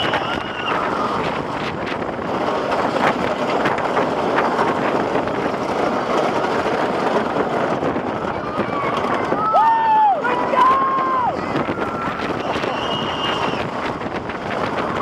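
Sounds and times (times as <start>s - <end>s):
roller coaster rushing roar: 0.0s - 15.0s.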